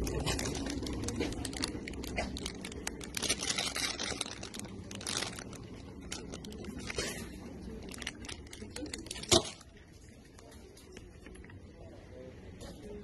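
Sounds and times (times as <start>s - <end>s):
cellophane crinkling: 0.0s - 10.5s.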